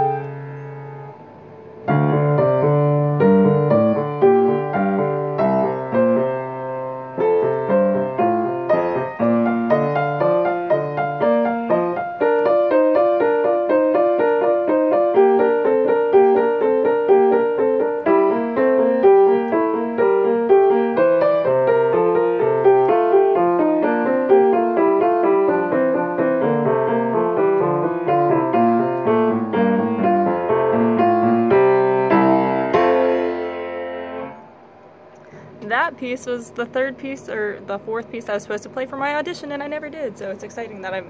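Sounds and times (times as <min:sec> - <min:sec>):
classical piano piece: 0:00.0 - 0:41.0.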